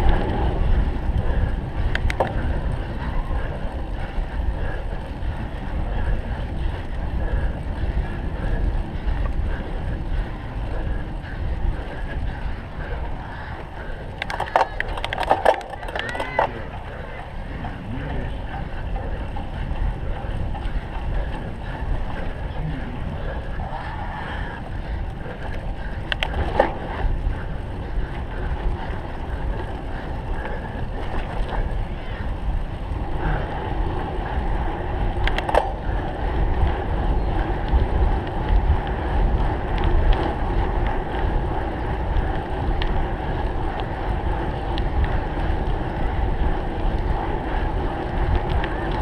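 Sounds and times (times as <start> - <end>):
bike rattling over rough ground: 0.0 - 49.0
wind on microphone: 0.0 - 49.0.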